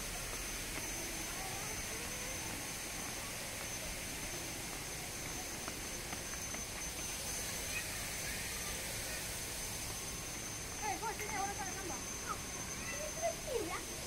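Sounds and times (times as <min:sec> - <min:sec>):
background hiss: 0:00.0 - 0:14.0
faint distant voices: 0:00.0 - 0:14.0
thin high steady tone: 0:00.0 - 0:14.0.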